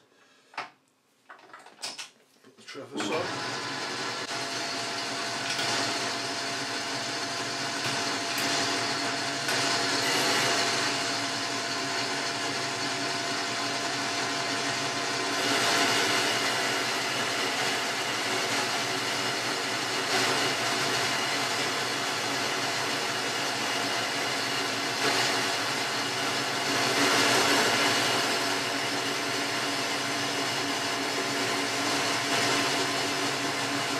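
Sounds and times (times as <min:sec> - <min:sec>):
lathe whirring: 0:03.0 - 0:33.9.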